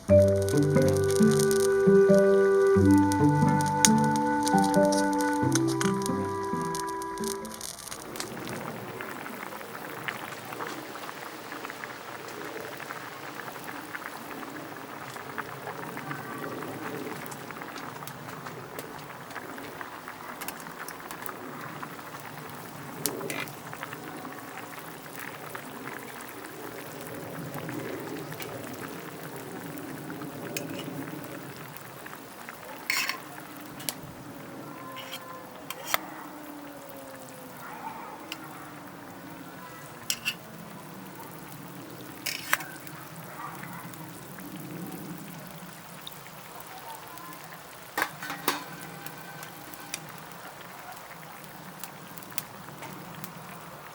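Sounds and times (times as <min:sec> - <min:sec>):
food sizzling in a pan: 0:00.1 - 0:18.1, 0:19.8 - 0:34.1, 0:37.2 - 0:53.5.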